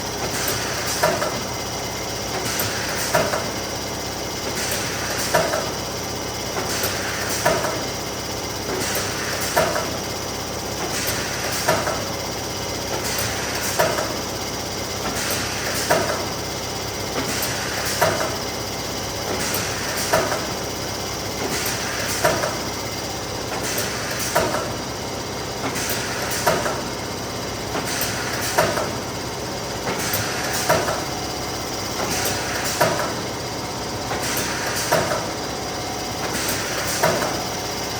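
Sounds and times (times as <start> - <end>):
laminator running: 0.0 - 37.9.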